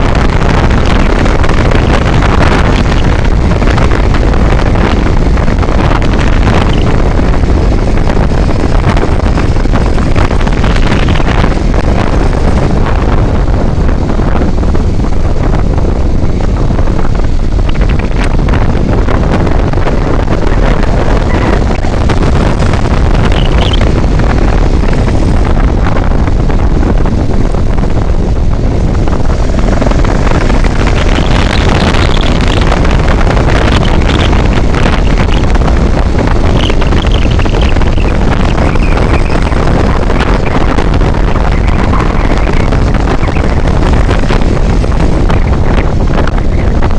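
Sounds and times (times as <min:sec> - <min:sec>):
low vehicle rumble: 0:00.0 - 0:46.9
wind buffeting microphone: 0:00.0 - 0:46.9.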